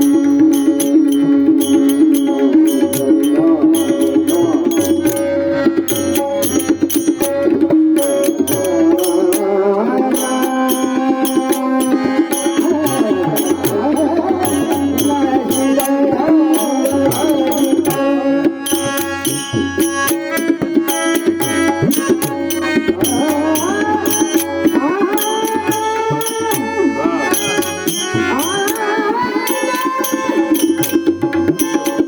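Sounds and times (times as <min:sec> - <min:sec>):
held melodic notes: 0:00.0 - 0:32.0
tabla-like drumming: 0:00.0 - 0:32.0.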